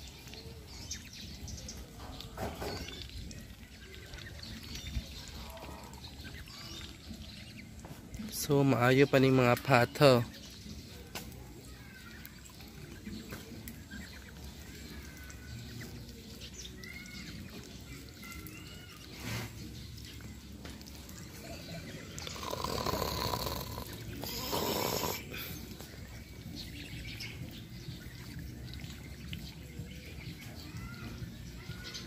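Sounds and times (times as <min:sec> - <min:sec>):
birds chirping: 0:00.0 - 0:32.0
outdoor background noise: 0:00.0 - 0:32.0.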